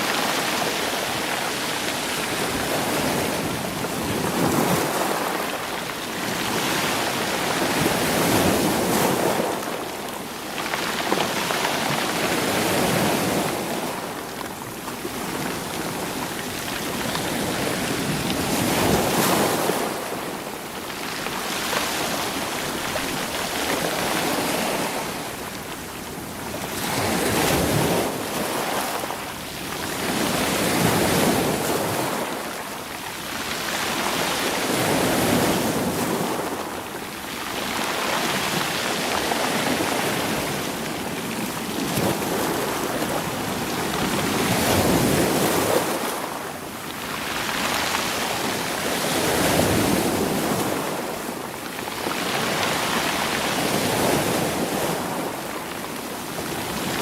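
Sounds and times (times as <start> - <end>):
waves on stony shore: 0.0 - 57.0.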